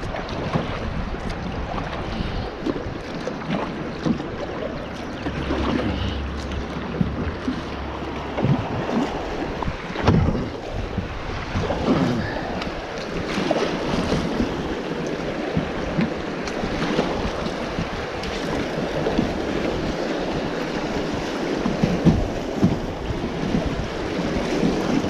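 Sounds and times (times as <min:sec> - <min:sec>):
paddle splashes: 0:00.0 - 0:25.0
river water rushing: 0:00.0 - 0:25.0
wind buffeting microphone: 0:00.0 - 0:25.0.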